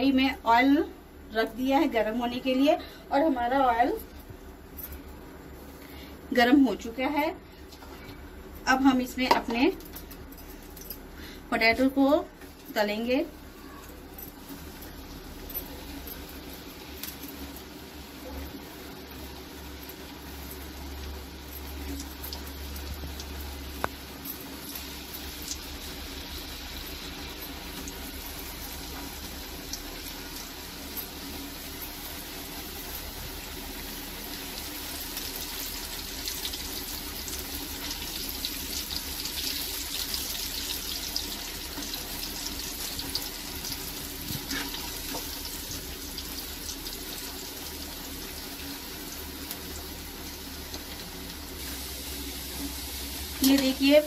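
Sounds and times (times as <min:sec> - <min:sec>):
food sizzling in hot oil: 0:08.4 - 0:54.0.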